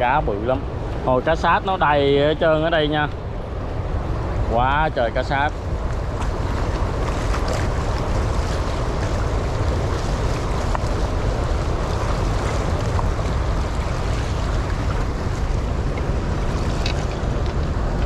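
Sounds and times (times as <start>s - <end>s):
rushing floodwater and waves: 0.0s - 18.0s
wind on microphone: 0.0s - 18.0s.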